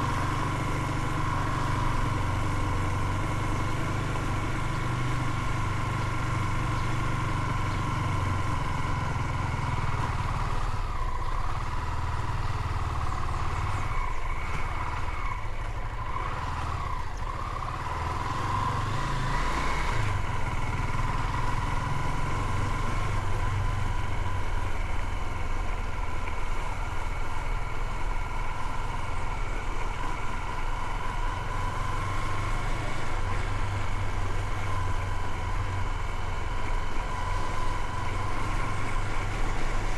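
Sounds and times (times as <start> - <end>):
constant engine whine: 0.0 - 39.9
motorcycle engine running: 0.0 - 39.9.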